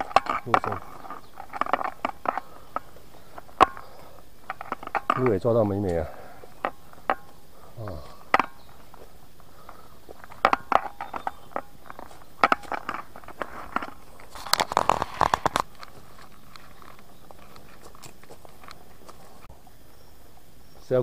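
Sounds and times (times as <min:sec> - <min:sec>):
footsteps on twigs and leaves: 0:00.0 - 0:21.0.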